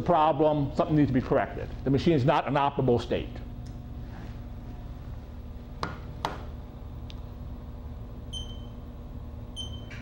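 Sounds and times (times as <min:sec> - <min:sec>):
control panel low hum: 0:00.0 - 0:10.0.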